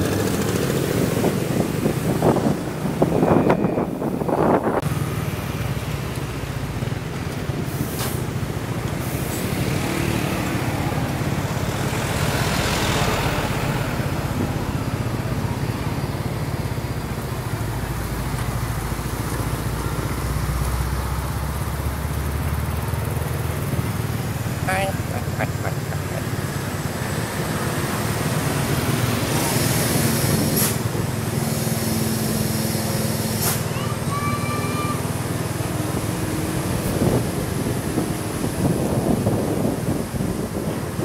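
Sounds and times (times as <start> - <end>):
road vehicles engine hum: 0.0 - 41.0.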